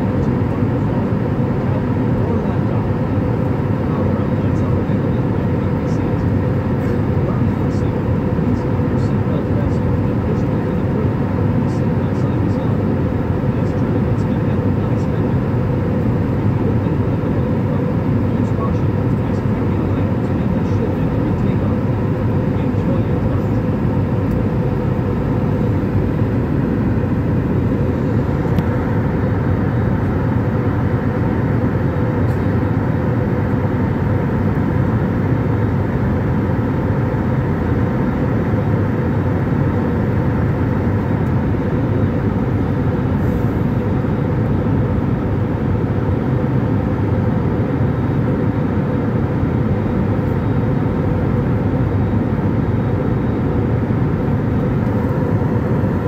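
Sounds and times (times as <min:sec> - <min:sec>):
airliner cabin engine noise: 0:00.0 - 0:56.0.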